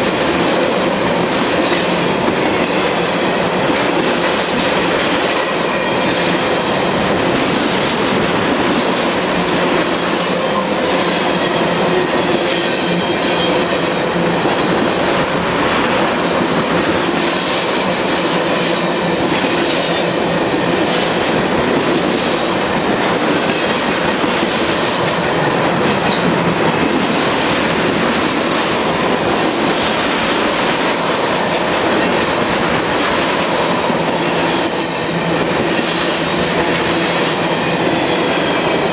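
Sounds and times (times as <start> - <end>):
freight train cars rolling: 0.0 - 38.9.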